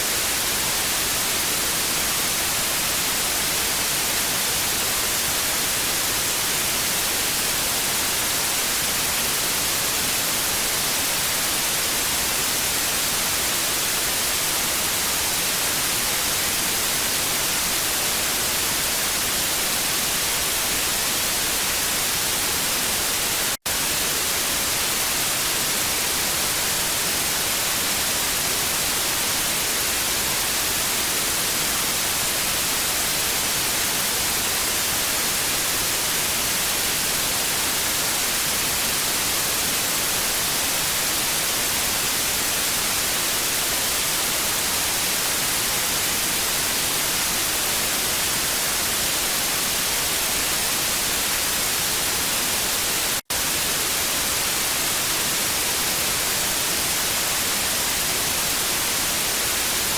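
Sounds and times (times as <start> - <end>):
tv static hiss: 0.0 - 59.9.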